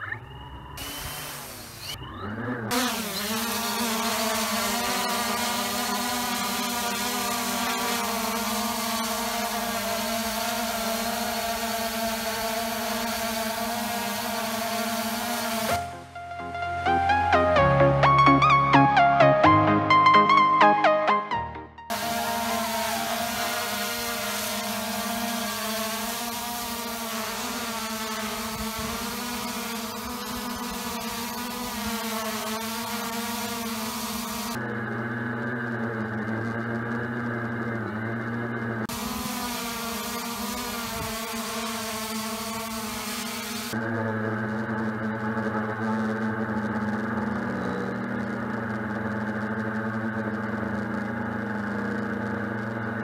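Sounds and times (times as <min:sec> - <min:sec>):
drone propeller buzz: 0:00.0 - 0:53.0.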